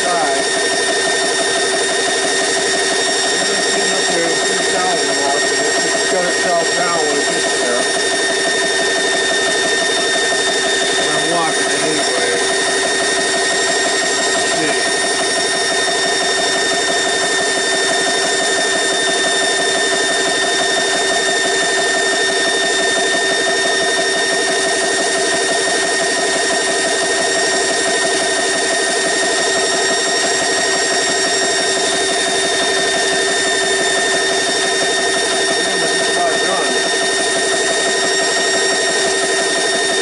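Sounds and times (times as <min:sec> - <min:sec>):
air compressor whining and rattling: 0:00.0 - 0:40.0.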